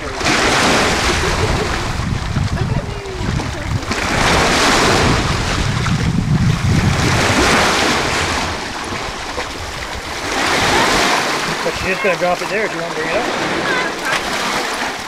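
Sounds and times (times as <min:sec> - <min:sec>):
wind on microphone: 0:00.0 - 0:12.1
waves breaking on rocks: 0:00.0 - 0:15.0.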